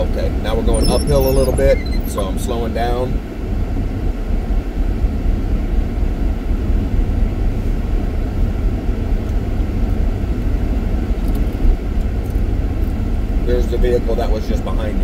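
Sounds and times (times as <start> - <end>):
car heater blower running: 0.0 - 15.0.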